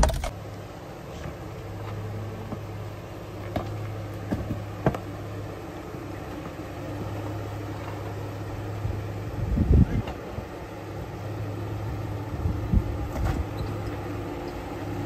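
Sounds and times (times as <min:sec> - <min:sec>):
car engine running low: 0:00.0 - 0:15.0.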